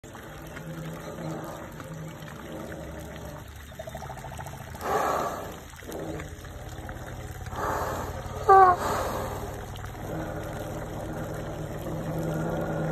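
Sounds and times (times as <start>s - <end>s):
low steady hum: 0.0s - 12.9s
water trickling and sloshing: 0.0s - 12.9s.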